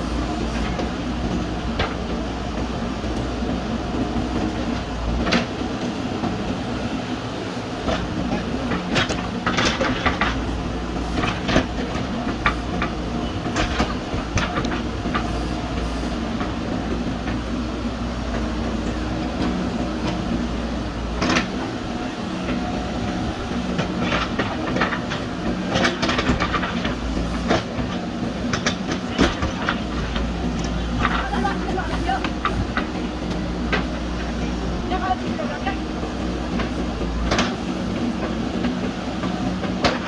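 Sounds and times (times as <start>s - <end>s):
machine knocks and clanks: 0.0s - 6.9s, 7.7s - 40.0s
backhoe diesel engine running: 0.0s - 40.0s.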